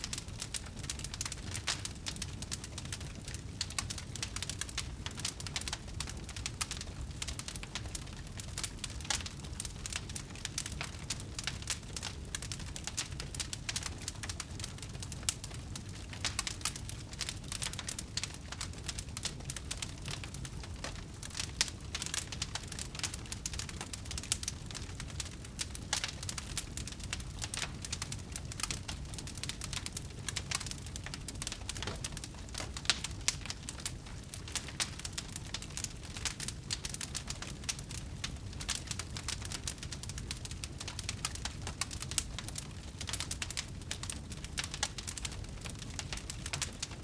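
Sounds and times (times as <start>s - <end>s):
low rumble of flames: 0.0s - 47.0s
wood fire crackling and popping: 0.0s - 47.0s.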